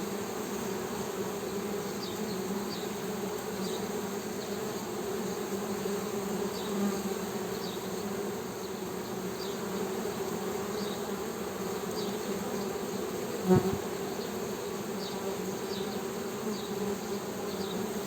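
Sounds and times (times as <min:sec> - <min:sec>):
honey bees buzzing: 0:00.1 - 0:18.0.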